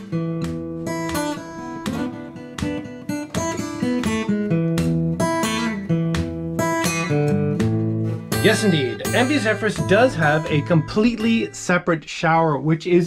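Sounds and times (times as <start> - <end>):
acoustic guitar strumming and picking: 0.0 - 12.0.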